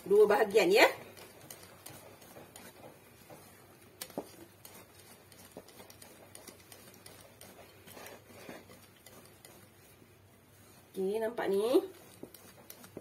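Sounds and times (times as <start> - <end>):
spoon scraping batter: 0.0 - 13.0.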